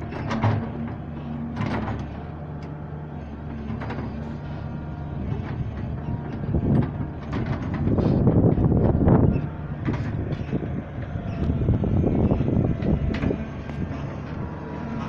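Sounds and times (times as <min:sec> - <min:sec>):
diesel excavator engine: 0:00.0 - 0:15.0.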